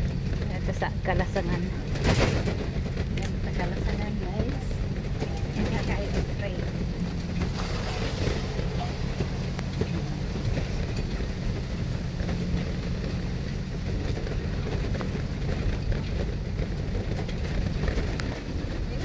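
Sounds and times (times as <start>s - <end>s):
carriages rumbling: 0.0s - 19.0s
train engine drone: 0.0s - 19.0s.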